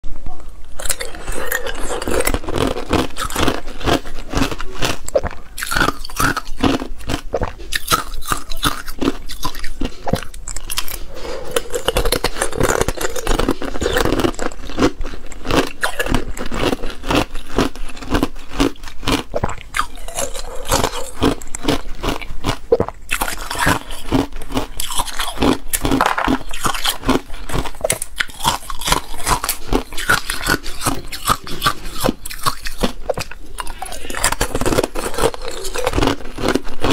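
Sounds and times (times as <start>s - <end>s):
ice cubes crunching: 0.8s - 36.9s.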